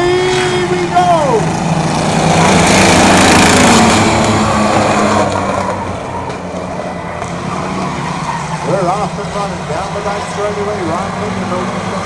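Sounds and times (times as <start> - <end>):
racing truck engines at full throttle: 0.0 - 12.0.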